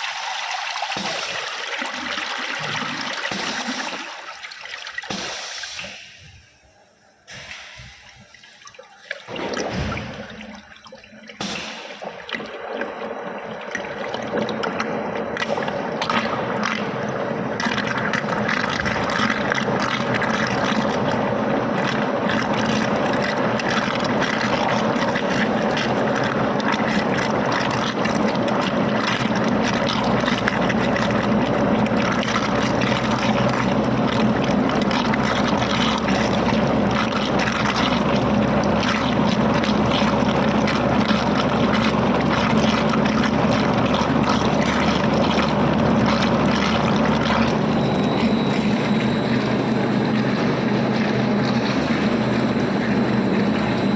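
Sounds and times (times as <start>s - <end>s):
homogenizer mixer churning liquid: 0.0s - 5.8s, 7.8s - 53.9s.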